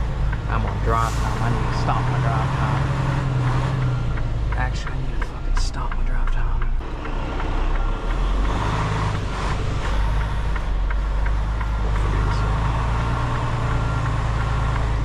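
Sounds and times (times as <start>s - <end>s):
light regular ticking: 0.0s - 15.0s
truck diesel engine running: 0.0s - 15.0s.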